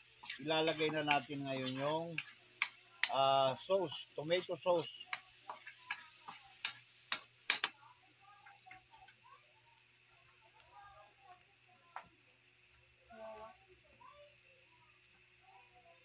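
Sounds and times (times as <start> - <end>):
vegetables sizzling: 0.0 - 16.0.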